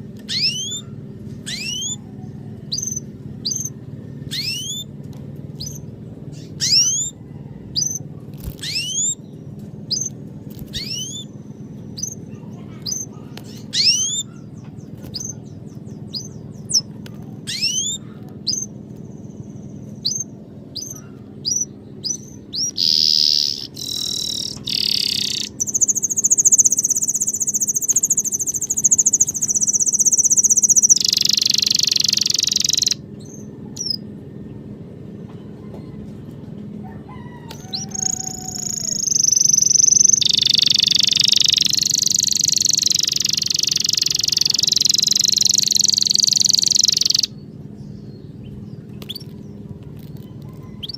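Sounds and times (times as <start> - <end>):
songbird chirping: 0.0 - 50.9.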